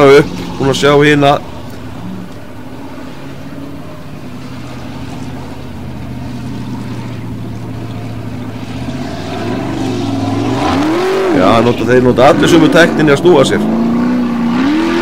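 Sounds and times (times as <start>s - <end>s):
buggy engine running high pitch: 0.0s - 15.0s.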